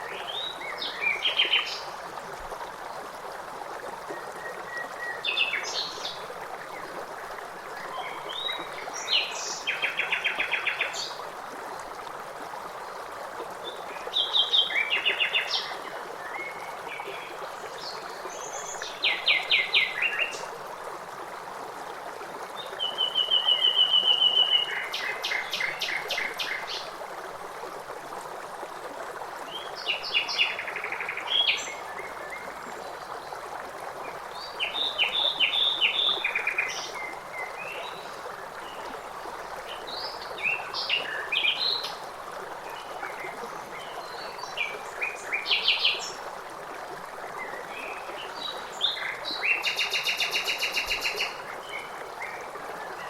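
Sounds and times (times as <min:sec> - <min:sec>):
stream rushing: 0:00.0 - 0:53.0.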